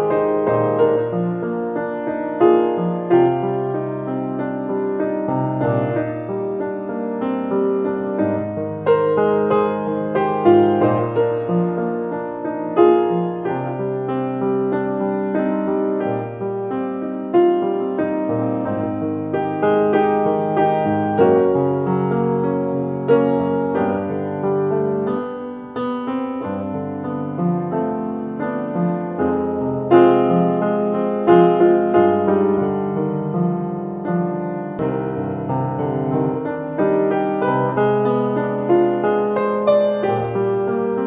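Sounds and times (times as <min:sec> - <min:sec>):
solo grand piano: 0:00.0 - 0:41.0.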